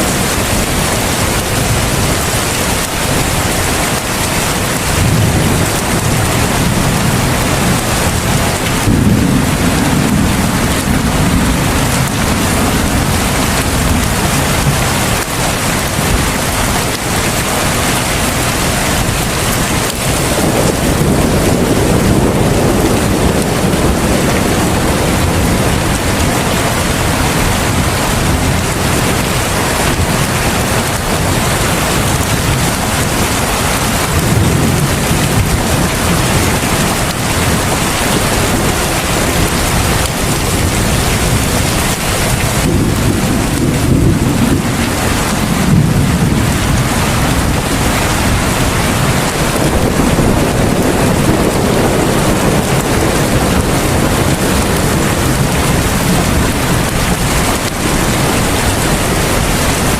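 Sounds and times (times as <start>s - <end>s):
heavy rain pouring: 0.0s - 59.9s
low rumbles: 0.0s - 59.9s.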